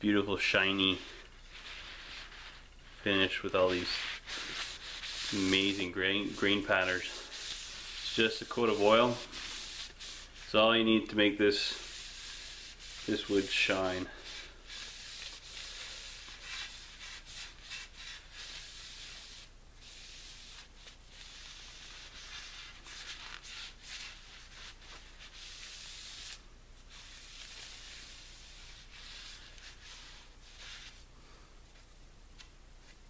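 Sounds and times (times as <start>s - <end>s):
cloth rag swishing on wood: 0.1s - 31.1s.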